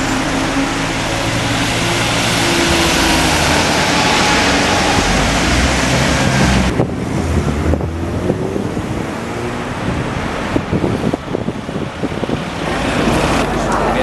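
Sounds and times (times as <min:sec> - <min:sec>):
large vehicle engine running: 0:00.0 - 0:14.0
wind on microphone: 0:01.1 - 0:14.0.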